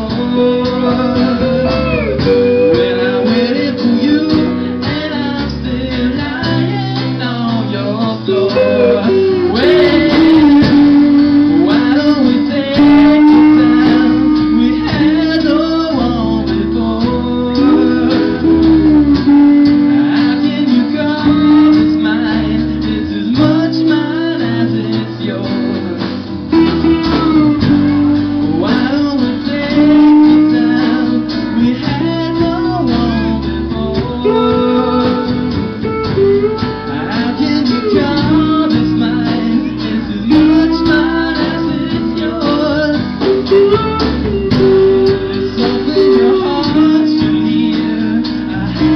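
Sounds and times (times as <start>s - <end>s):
live band playing: 0.0s - 48.9s.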